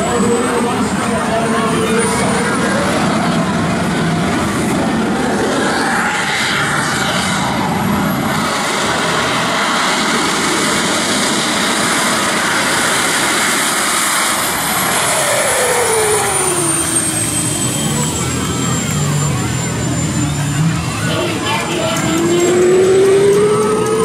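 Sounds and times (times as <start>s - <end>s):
jet engine roar with turbine whine: 0.0s - 24.0s.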